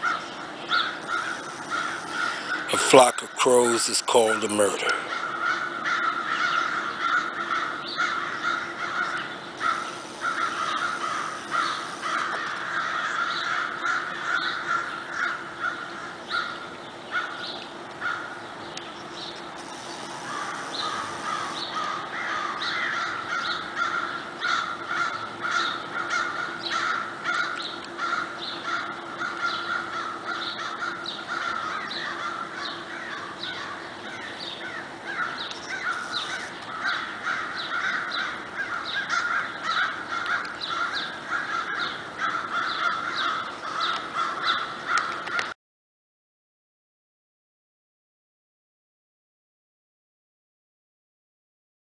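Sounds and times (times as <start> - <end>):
crows cawing: 0.0 - 18.4, 19.6 - 45.6.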